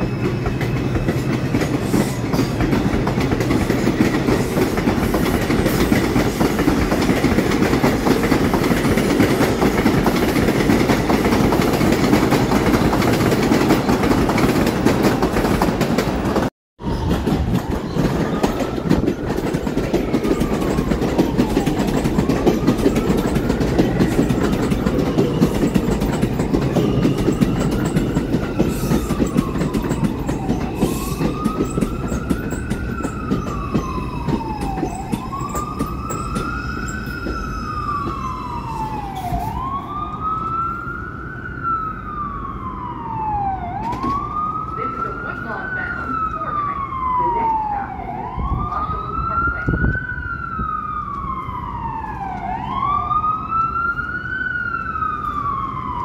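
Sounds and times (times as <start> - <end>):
subway train rumbling and clattering: 0.0 - 41.4, 42.2 - 52.2
emergency siren wailing: 0.0 - 56.0.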